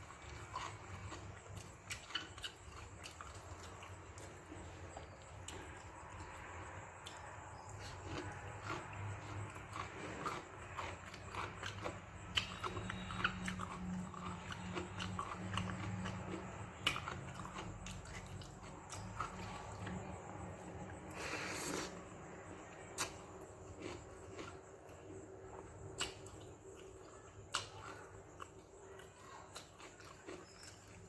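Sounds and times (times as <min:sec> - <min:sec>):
person chewing food: 0:00.0 - 0:31.0.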